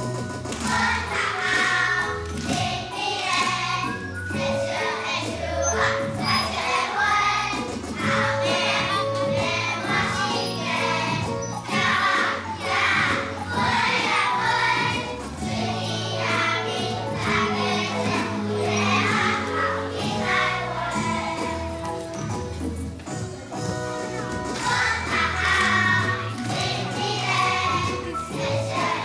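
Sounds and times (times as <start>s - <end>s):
backing music: 0.0s - 29.0s
children chanting a rhyme: 0.6s - 21.7s, 24.5s - 29.0s.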